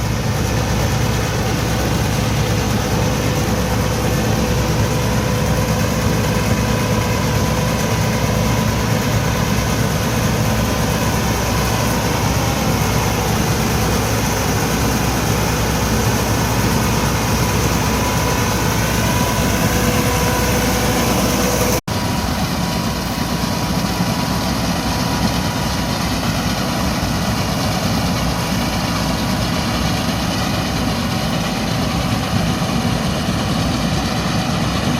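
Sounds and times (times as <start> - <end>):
straw chopper whine: 0.0 - 34.9
tractor diesel engine running: 0.0 - 34.9.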